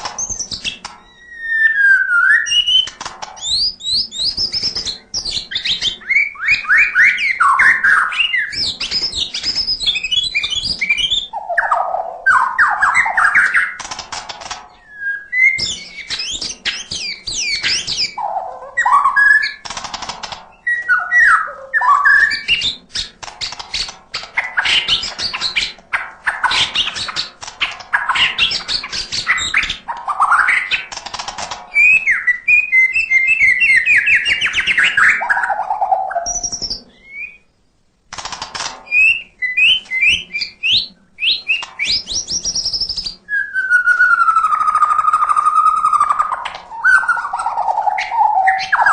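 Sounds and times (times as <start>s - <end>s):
bird singing whistles and trills: 0.1s - 13.8s, 14.7s - 19.6s, 20.5s - 30.9s, 31.7s - 37.6s, 38.8s - 48.9s.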